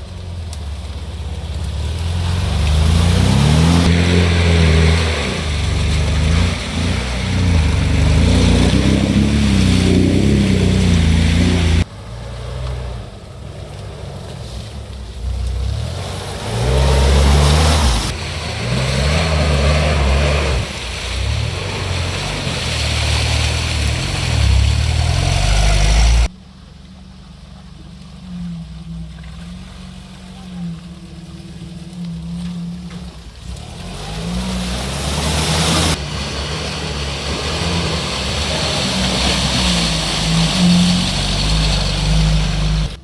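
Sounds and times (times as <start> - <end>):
off-road engine revving: 0.0 - 43.0.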